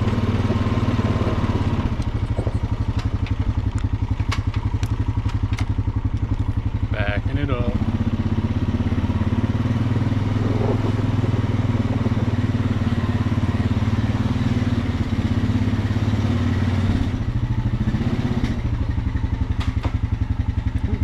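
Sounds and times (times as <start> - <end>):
quad engine running at low speed: 0.0 - 21.0.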